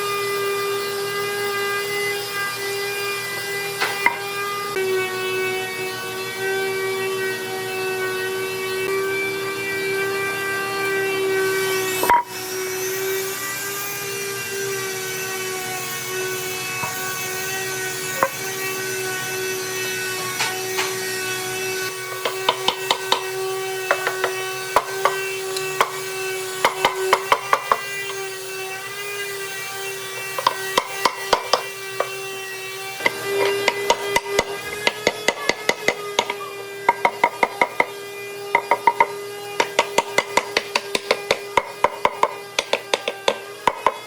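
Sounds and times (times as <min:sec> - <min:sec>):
power tool whining: 0:00.0 - 0:44.0.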